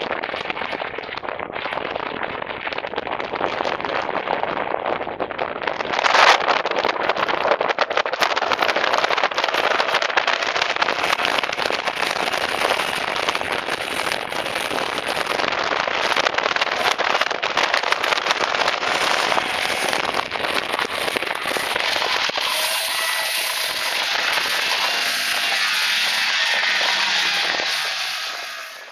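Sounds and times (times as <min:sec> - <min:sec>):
snowmobile engine at high revs: 0:00.0 - 0:05.1, 0:05.8 - 0:28.9
rushing wind and snow: 0:00.0 - 0:28.9.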